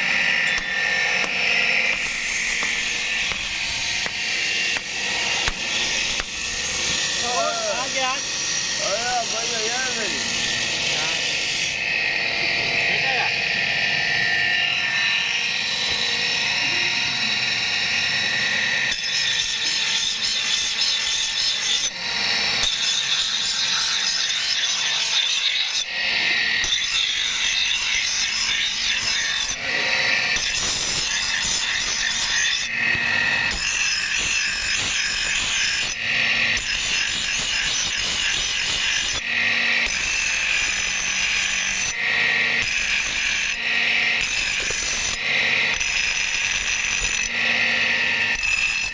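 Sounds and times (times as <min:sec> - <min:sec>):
grinder motor whine: 0:00.0 - 0:48.9
grinding wheel on steel: 0:00.0 - 0:48.9.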